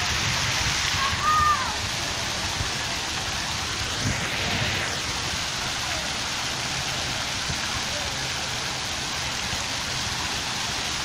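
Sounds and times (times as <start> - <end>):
fountain jets splashing: 0.0 - 11.0.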